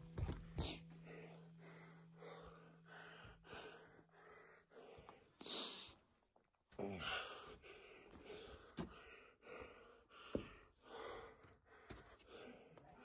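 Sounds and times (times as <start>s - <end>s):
person breathing hard: 0.5s - 6.0s, 7.0s - 13.0s.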